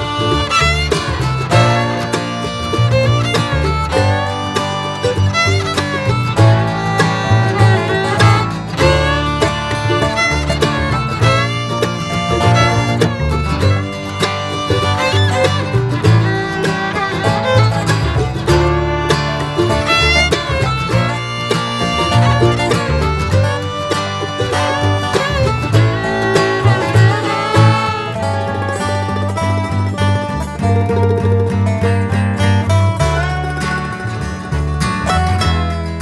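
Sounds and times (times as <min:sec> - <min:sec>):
bluegrass tune: 0:00.0 - 0:36.0.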